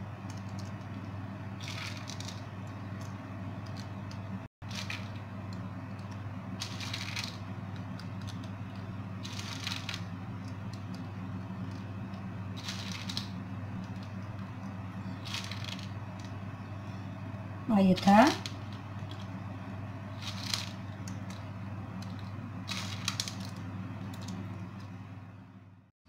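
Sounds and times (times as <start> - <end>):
steady low hum: 0.0 - 25.9
pine nuts rattling: 1.6 - 16.4, 18.0 - 19.4, 20.1 - 25.0.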